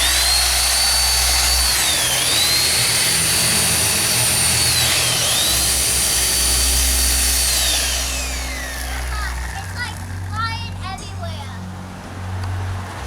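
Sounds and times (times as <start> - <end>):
chainsaw cutting: 0.0 - 11.6.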